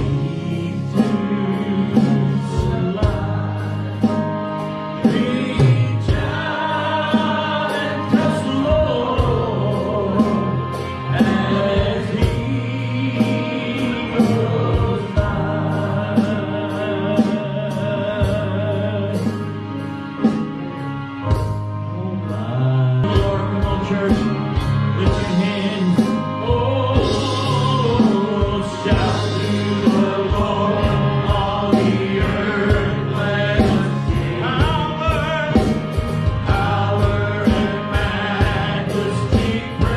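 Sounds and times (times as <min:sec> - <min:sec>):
men singing together: 0:00.0 - 0:19.7, 0:22.0 - 0:39.9
drums: 0:00.0 - 0:39.9
electric guitar: 0:00.0 - 0:39.9
keyboard: 0:00.0 - 0:39.9.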